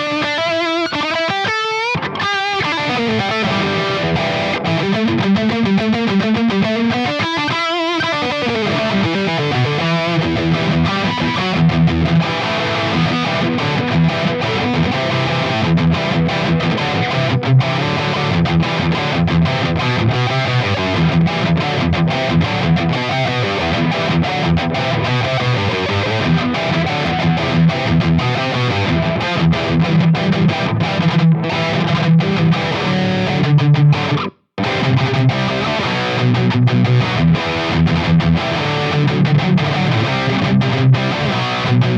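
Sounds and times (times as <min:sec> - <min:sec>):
distorted electric guitar riff: 0:00.0 - 0:41.9.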